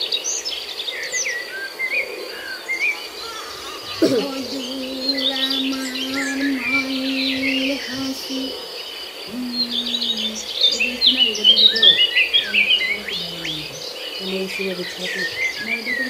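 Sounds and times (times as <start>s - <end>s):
small birds chirping: 0.0s - 16.0s
low held hum: 3.0s - 16.0s.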